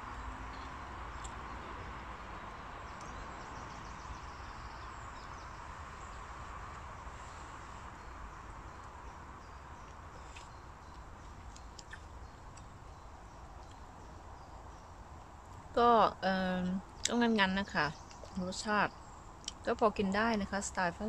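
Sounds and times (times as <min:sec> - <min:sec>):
background hiss and rumble: 0:00.0 - 0:21.0.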